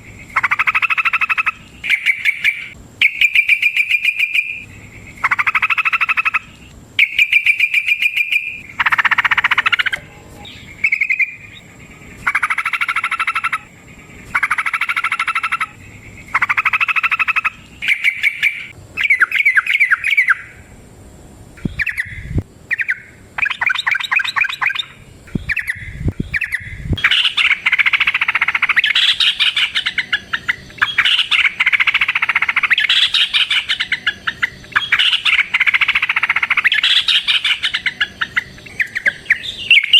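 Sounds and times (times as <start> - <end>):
bird singing bubbling phrases: 0.0 - 20.7, 21.6 - 39.9.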